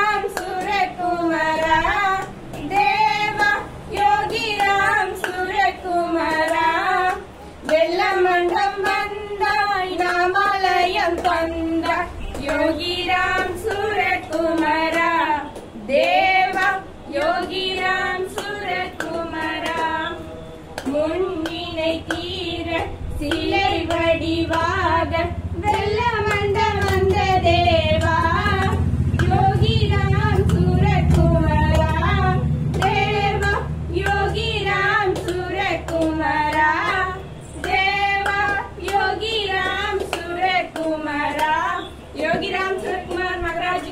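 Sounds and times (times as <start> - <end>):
low steady hum: 0.0 - 43.9
women singing through microphone: 0.0 - 43.9.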